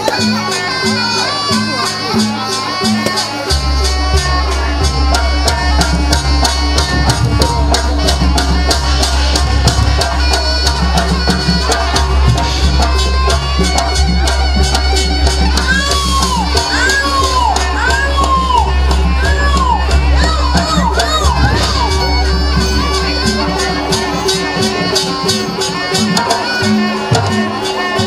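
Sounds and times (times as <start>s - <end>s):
crowd shouting and cheering: 0.0s - 28.0s
folk music over loudspeakers: 0.0s - 28.0s
hand drums beating: 0.0s - 28.0s.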